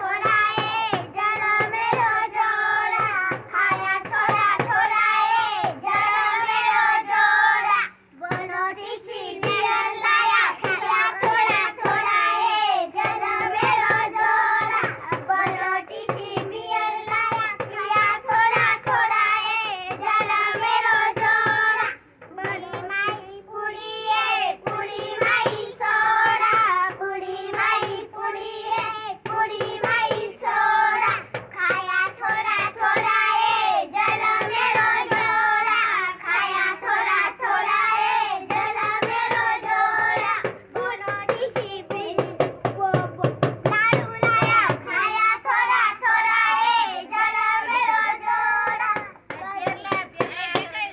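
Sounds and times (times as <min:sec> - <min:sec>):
rhythmic hand clapping: 0:00.0 - 0:50.9.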